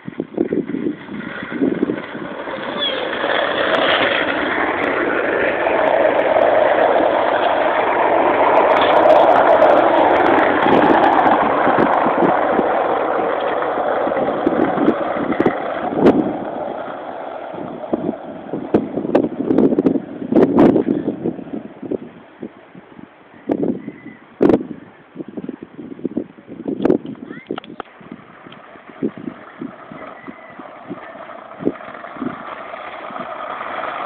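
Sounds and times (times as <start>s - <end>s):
skateboard wheels rolling on asphalt: 0.0s - 34.0s
wind on microphone: 0.0s - 34.0s.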